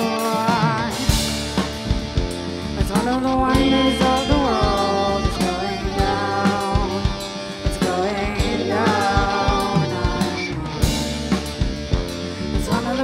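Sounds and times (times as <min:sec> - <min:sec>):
drum kit beat: 0:00.0 - 0:13.0
rock band playing: 0:00.0 - 0:13.0.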